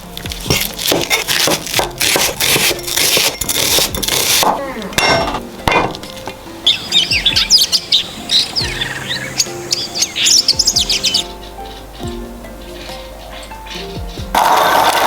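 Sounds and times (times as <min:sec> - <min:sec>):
small birds chirping: 0:00.0 - 0:15.0
soft background music: 0:00.0 - 0:15.0.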